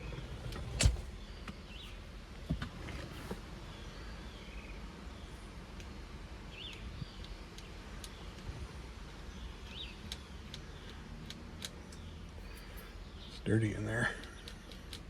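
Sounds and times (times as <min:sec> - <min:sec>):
birds chirping: 0:00.0 - 0:15.0
low background rumble: 0:00.0 - 0:15.0.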